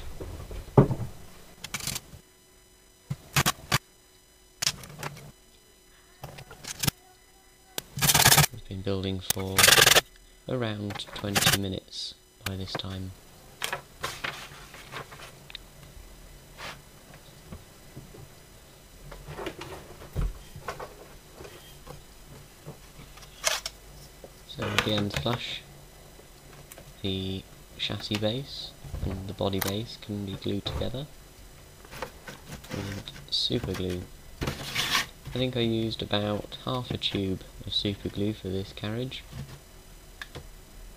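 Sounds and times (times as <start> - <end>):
faint hum: 0.0 - 40.9.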